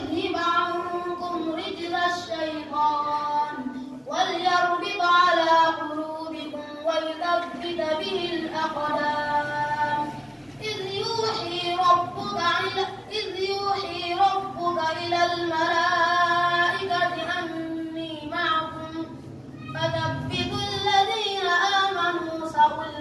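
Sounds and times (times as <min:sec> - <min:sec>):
child singing: 0:00.0 - 0:23.0.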